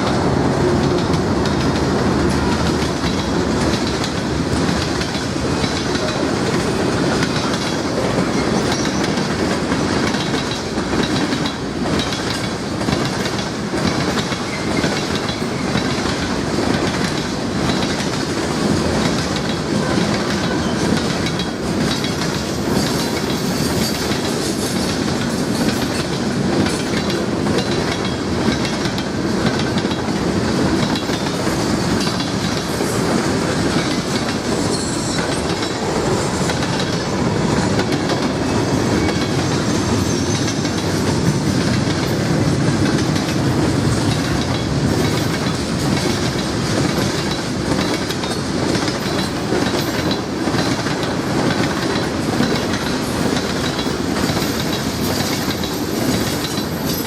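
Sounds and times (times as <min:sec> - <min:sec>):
train cars rolling past: 0:00.0 - 0:57.0
wheels clicking over rail joints: 0:00.8 - 0:57.0.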